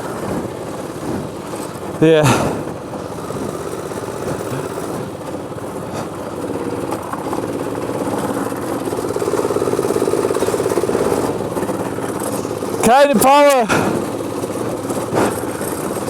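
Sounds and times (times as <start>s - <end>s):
go-kart engine running: 0.0s - 16.0s.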